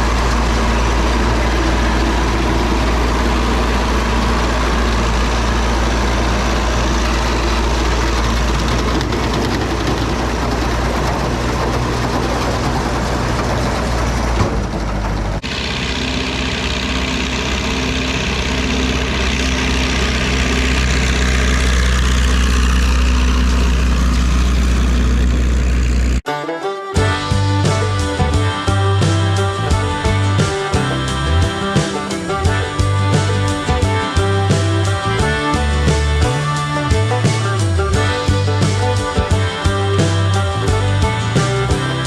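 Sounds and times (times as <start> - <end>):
tractor engine rumbling: 0.0 - 26.3, 26.9 - 42.0.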